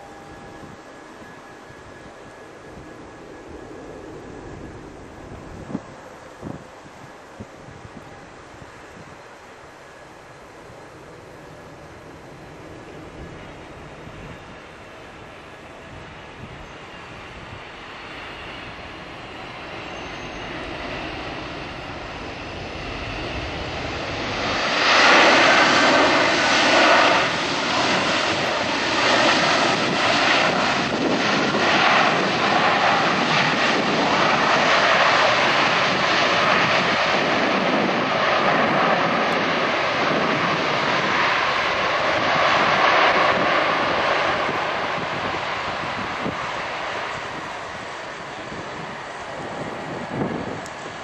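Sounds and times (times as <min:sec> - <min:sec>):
jet engines running at high power: 0:00.0 - 0:51.0.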